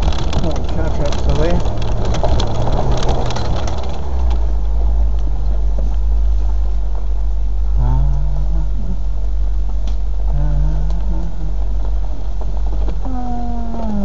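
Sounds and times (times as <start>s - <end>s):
engine low rumble: 0.0s - 14.0s.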